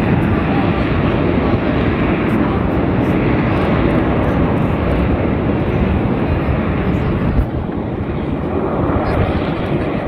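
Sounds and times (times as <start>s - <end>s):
jet aircraft engine rumble: 0.0s - 10.0s.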